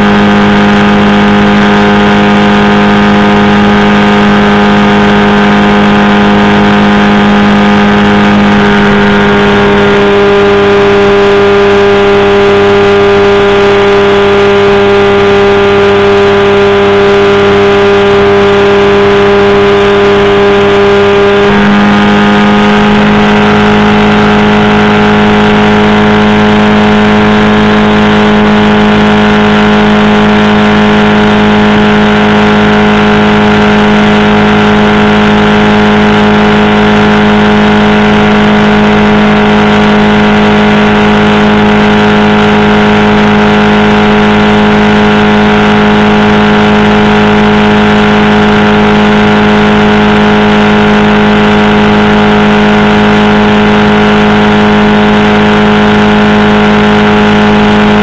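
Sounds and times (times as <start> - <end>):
engine and propeller running: 0.0 - 58.0.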